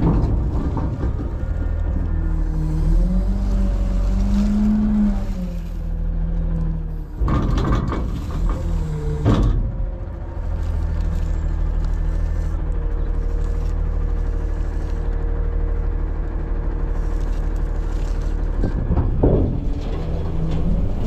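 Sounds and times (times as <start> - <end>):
loud rattling clatter: 0.0 - 6.2, 7.1 - 21.0
garbage truck engine and hydraulics: 0.0 - 21.0.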